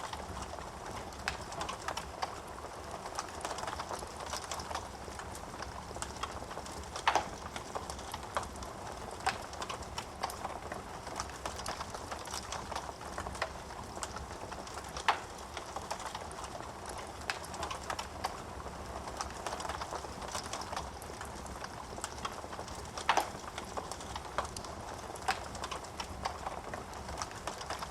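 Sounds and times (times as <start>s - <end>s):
burning wood snapping and popping: 0.0s - 27.9s.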